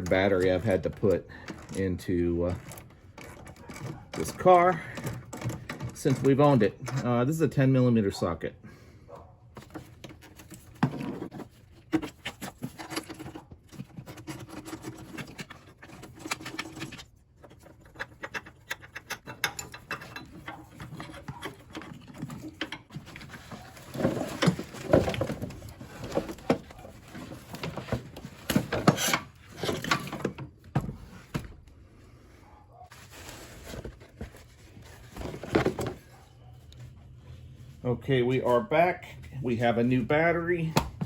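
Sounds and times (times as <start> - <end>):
hand tools and metal parts clunking: 0.0 - 41.0.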